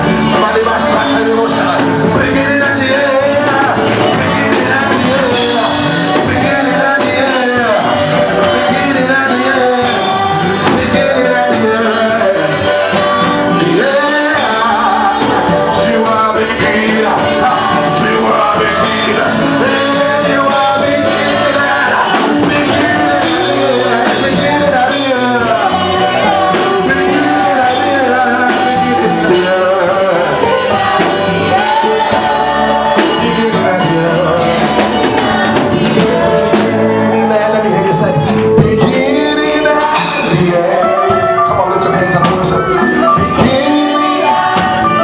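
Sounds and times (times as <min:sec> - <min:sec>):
band with drum kit playing: 0:00.0 - 0:45.0
singing: 0:00.0 - 0:45.0.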